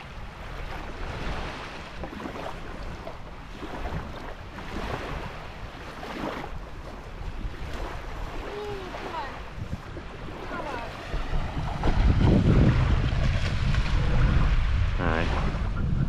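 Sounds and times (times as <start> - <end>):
small waves lapping shore: 0.0 - 15.9
wind rumbling on microphone: 0.0 - 16.0.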